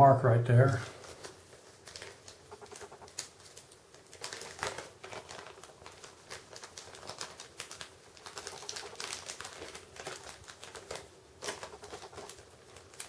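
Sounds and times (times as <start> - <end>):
plastic bag crinkling: 0.9 - 13.0.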